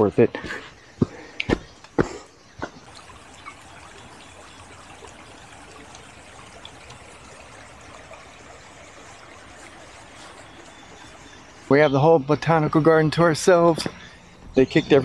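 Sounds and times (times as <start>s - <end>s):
stream trickling: 2.8s - 15.0s.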